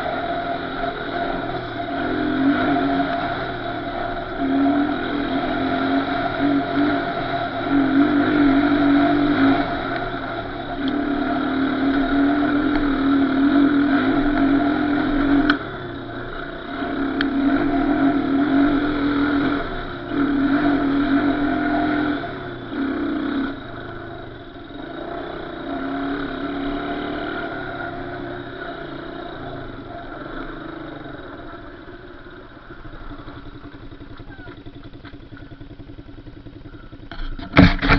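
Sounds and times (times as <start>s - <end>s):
off-road vehicle engine revving: 0.0s - 37.9s.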